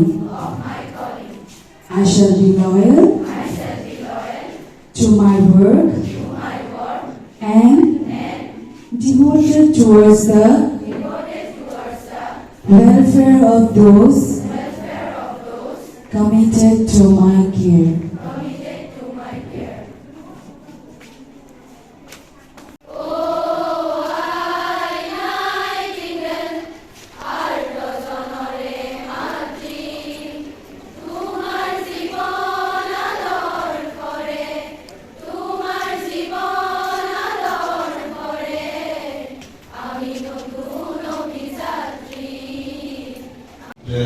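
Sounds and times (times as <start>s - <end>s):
group singing in unison: 0.0s - 20.2s, 22.8s - 44.0s.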